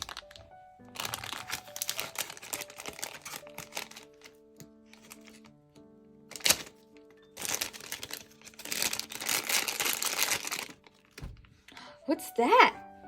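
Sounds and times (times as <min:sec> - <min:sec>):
plastic packaging ripping: 0:00.0 - 0:05.6, 0:06.3 - 0:11.4
plastic wrapper crinkling: 0:00.0 - 0:05.6, 0:06.2 - 0:11.8.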